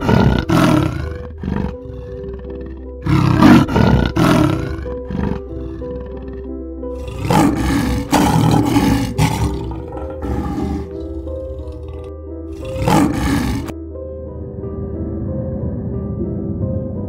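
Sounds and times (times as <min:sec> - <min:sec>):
big cat rough calls: 0:00.0 - 0:13.7
soft background music: 0:00.0 - 0:17.0.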